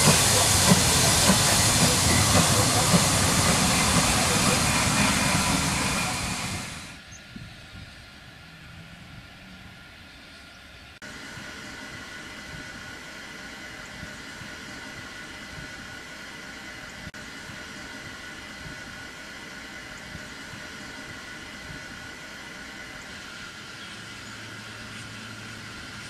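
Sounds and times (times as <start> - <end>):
steam train running: 0.0 - 7.0, 11.0 - 26.0.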